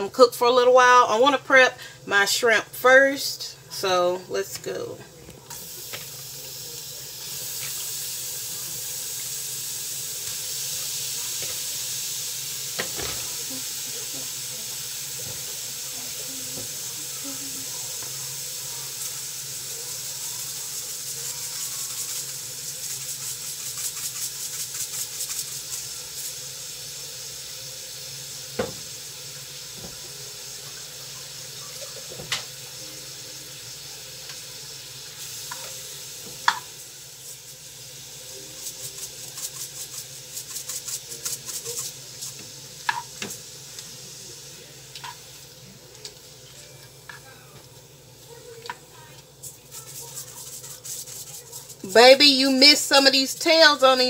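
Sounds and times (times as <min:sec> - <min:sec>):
shrimp sizzling in butter: 0:00.0 - 0:54.0.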